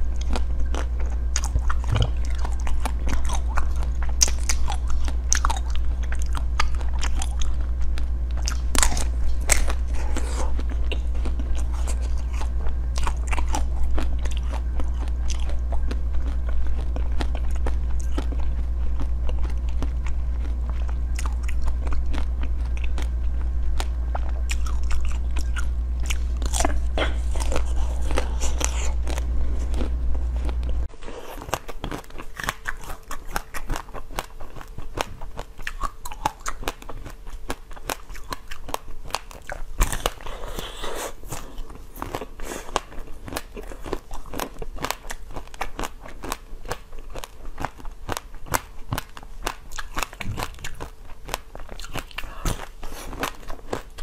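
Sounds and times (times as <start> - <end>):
crunchy chewing: 0.0 - 54.0
doughnut crackling chewing: 0.0 - 54.0
steady low hum: 0.0 - 54.0.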